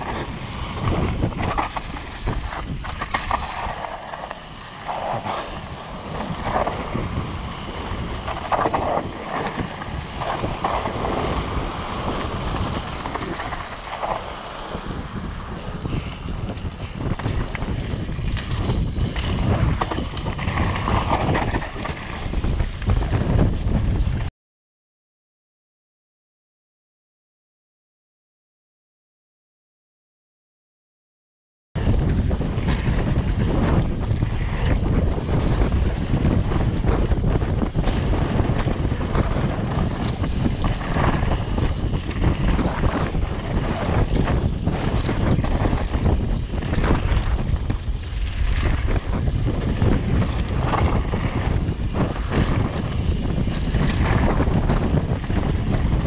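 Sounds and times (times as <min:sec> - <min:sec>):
bike rattling over bumps: 0:00.0 - 0:24.3, 0:31.8 - 0:56.0
wind rushing over microphone: 0:00.0 - 0:24.3, 0:31.8 - 0:56.0.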